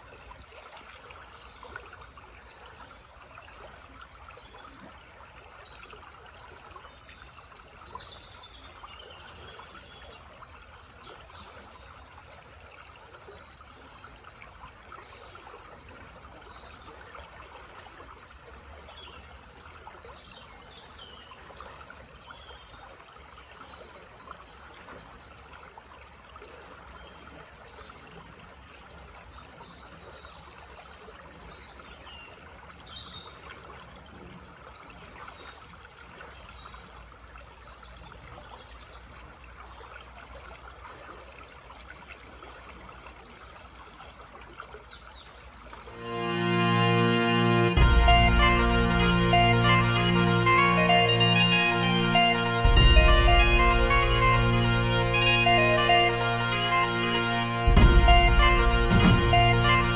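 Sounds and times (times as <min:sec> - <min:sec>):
forest stream trickling: 0:00.0 - 0:59.9.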